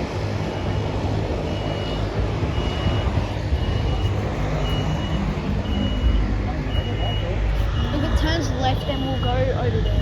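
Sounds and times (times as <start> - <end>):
low engine rumble: 0.0 - 10.0
vehicle warning beeper: 0.4 - 10.0.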